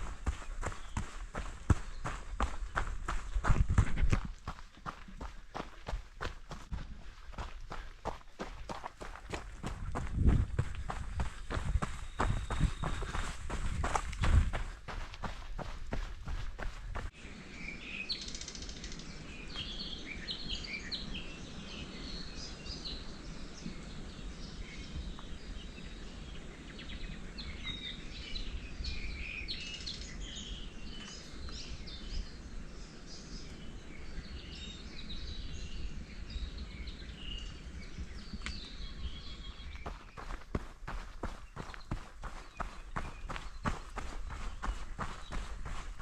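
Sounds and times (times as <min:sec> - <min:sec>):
birds chirping and singing: 0:00.0 - 0:46.0.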